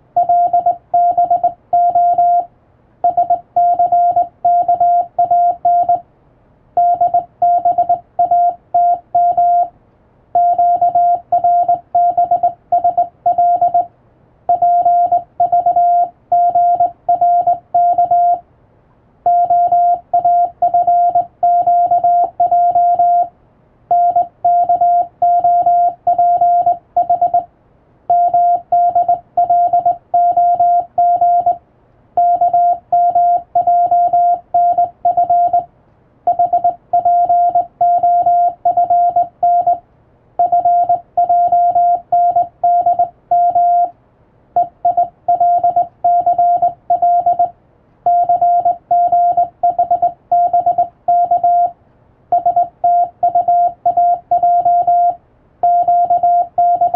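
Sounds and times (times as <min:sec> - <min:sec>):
morse code tones: 0:00.1 - 0:06.0, 0:06.8 - 0:09.7, 0:10.4 - 0:13.9, 0:14.5 - 0:18.4, 0:19.2 - 0:23.3, 0:23.9 - 0:27.5, 0:28.1 - 0:31.6, 0:32.2 - 0:35.7, 0:36.3 - 0:39.8, 0:40.4 - 0:44.0, 0:44.6 - 0:56.9.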